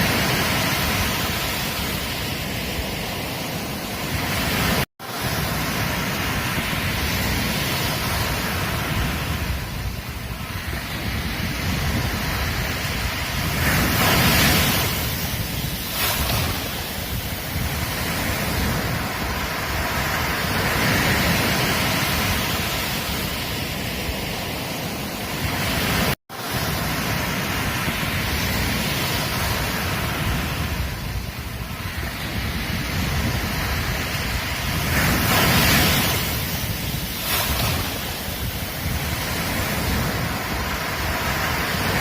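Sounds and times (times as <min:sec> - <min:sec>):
ocean surf breaking on beach: 0:00.0 - 0:42.0.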